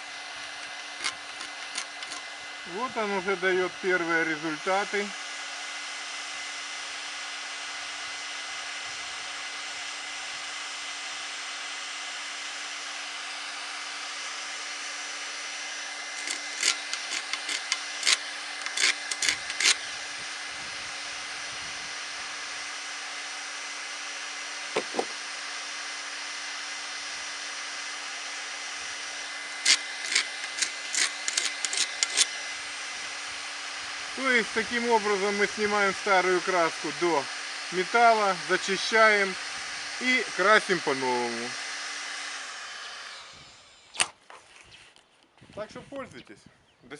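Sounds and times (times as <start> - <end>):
heat gun humming: 0.0 - 45.4.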